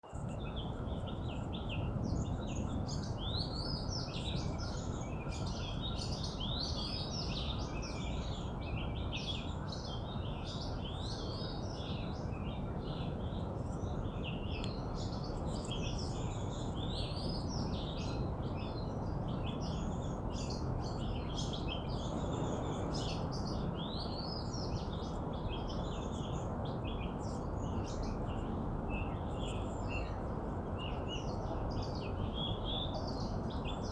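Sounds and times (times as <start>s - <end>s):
background hiss and rumble: 0.2s - 33.9s.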